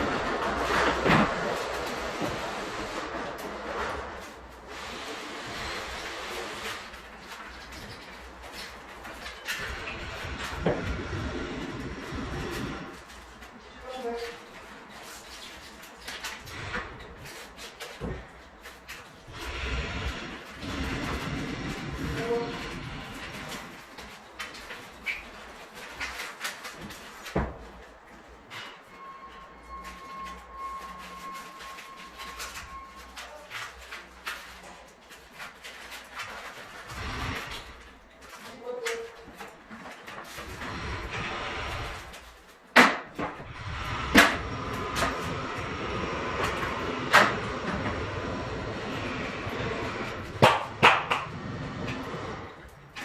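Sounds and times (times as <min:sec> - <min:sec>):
steady background noise: 0:00.0 - 0:53.0.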